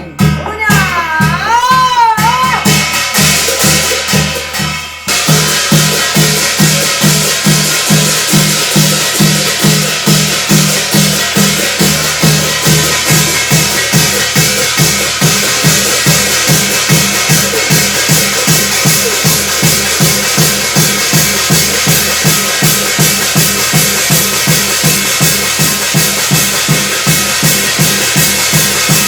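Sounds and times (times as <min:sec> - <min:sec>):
cymbals shimmering: 0:00.0 - 0:29.0
drum struck in steady beat: 0:00.0 - 0:29.0.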